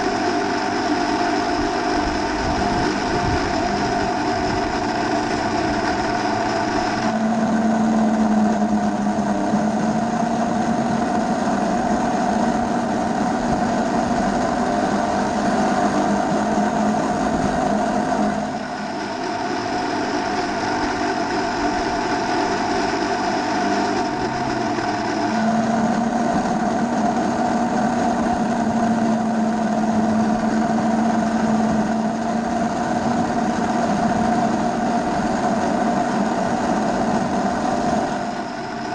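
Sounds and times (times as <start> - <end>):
model train motor whine: 0.0 - 38.9.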